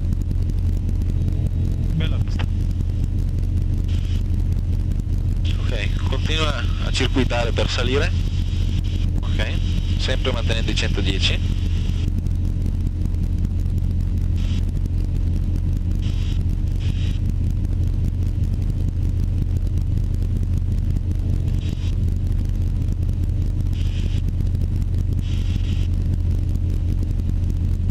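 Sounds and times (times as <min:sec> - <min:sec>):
aircraft piston engine and propeller drone: 0:00.0 - 0:27.9.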